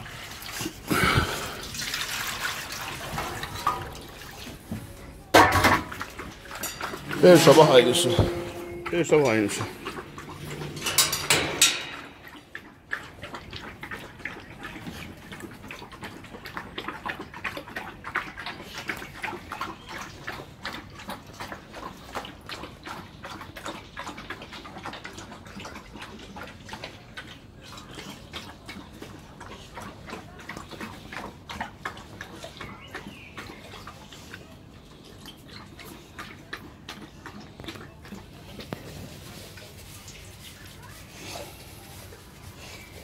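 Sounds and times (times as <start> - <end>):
dogs eating from metal bowls: 0.0 - 43.0.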